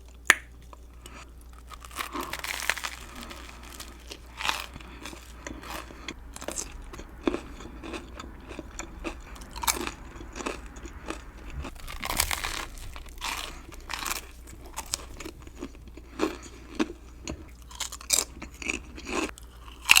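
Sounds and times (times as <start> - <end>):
chewing and crunching chips: 0.0 - 20.0.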